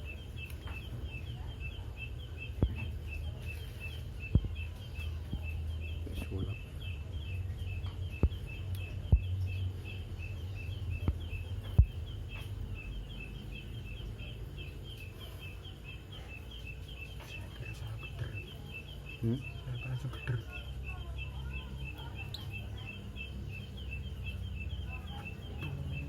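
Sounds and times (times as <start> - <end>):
high chirping: 0.0 - 26.0.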